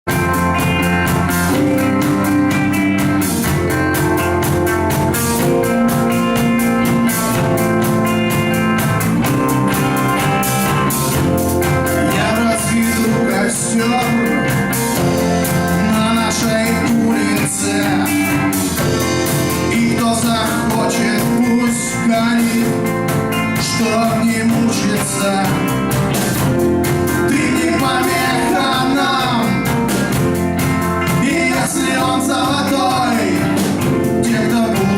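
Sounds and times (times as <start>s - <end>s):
rock band playing: 0.0s - 34.9s
guitar: 0.1s - 34.9s
steady drum beat: 0.1s - 34.9s.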